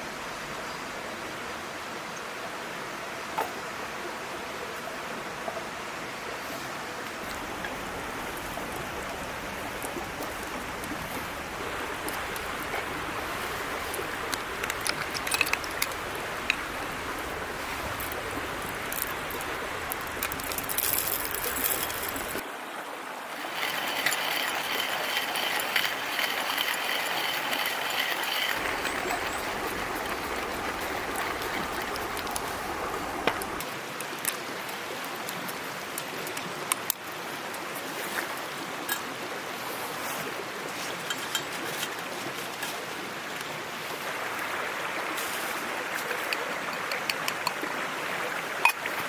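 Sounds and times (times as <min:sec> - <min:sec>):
stream babbling: 0:01.0 - 0:49.0.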